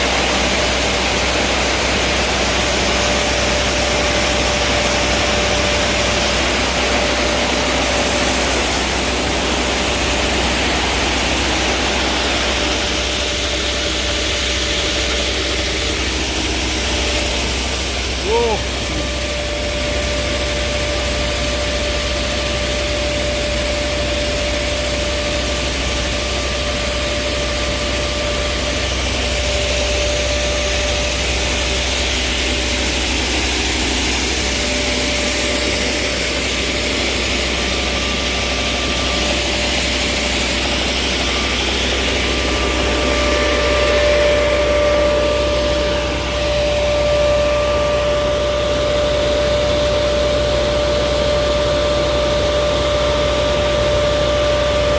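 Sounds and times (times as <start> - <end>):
low engine drone: 0.0 - 54.9
rush of air with whine: 0.0 - 54.9.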